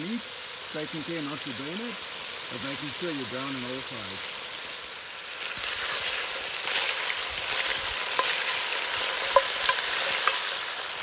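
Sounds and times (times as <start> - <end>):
meat sizzling in hot fat: 0.0 - 11.0.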